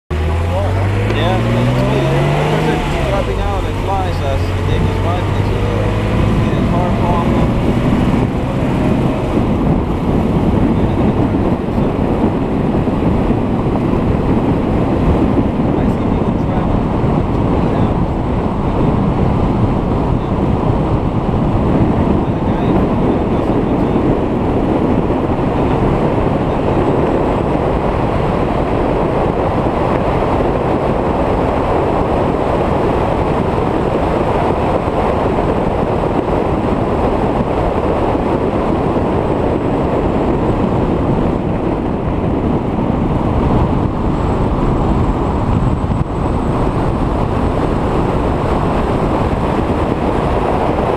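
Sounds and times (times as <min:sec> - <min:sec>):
car engine at speed: 0:00.1 - 0:50.9
wind rush on microphone: 0:00.1 - 0:50.9.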